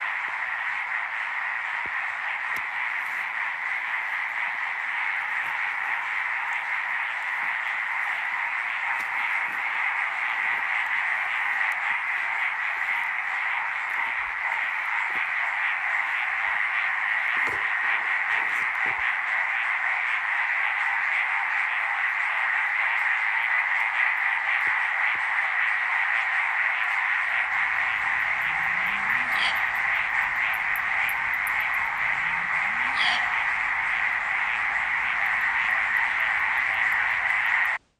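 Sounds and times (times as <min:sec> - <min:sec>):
frog chorus buzzing: 0:00.0 - 0:37.8.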